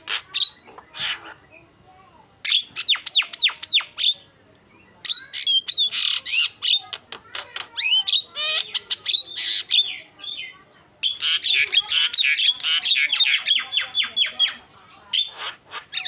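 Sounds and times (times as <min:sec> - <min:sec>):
bird harsh squawks: 0:00.0 - 0:01.6, 0:02.4 - 0:04.3, 0:05.0 - 0:16.0
myna whistling calls: 0:00.0 - 0:01.7, 0:02.4 - 0:07.0, 0:07.7 - 0:16.0.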